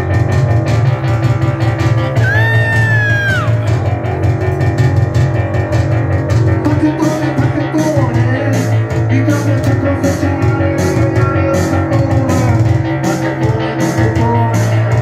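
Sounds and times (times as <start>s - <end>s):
electronic beat: 0.0s - 15.0s
electronic punk band playing: 0.0s - 15.0s
synth bass line: 0.0s - 15.0s.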